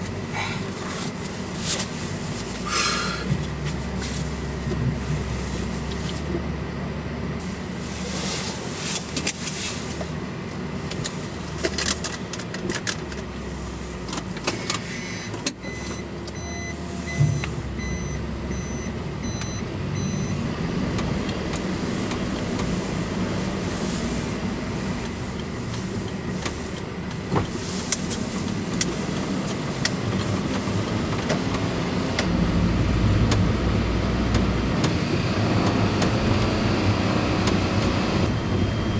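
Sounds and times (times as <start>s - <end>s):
vehicle engine rumble and road noise: 0.0s - 38.9s.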